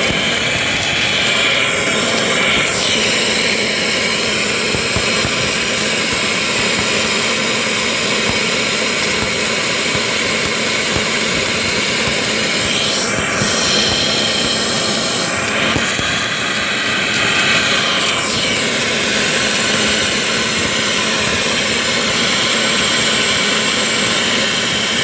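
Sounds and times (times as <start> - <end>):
welding machine roar and hiss: 0.0 - 25.0.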